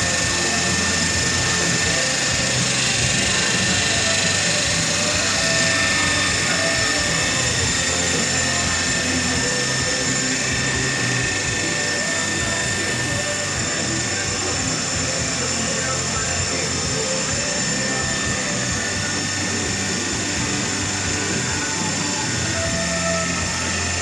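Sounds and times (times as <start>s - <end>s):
lathe mechanical whir: 0.0s - 24.0s.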